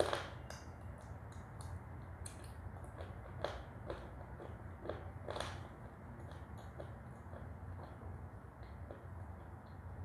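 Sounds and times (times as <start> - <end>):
clay chewing crunches: 0.0 - 9.6
low steady hum: 0.0 - 10.0.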